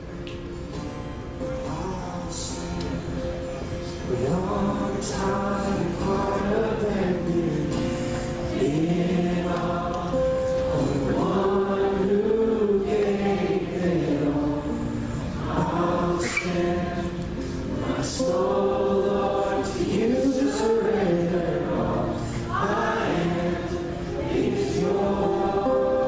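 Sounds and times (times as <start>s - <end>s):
congregation singing: 4.0s - 26.0s.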